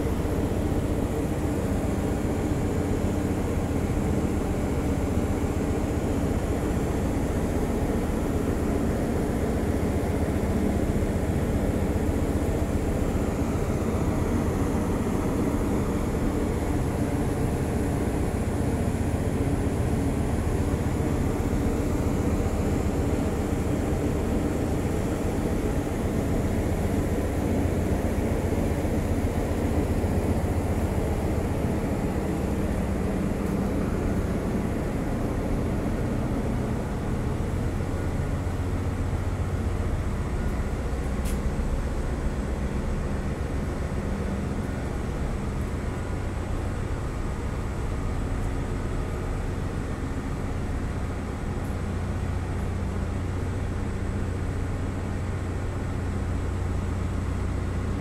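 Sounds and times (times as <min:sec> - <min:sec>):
constant hum: 0:00.0 - 0:58.0
ship engine rumble: 0:00.0 - 0:58.0.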